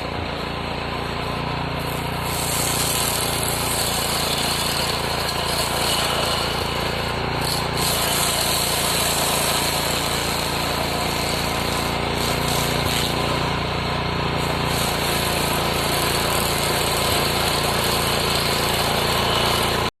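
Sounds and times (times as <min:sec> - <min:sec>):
stump grinder grinding wood: 0:00.0 - 0:19.9.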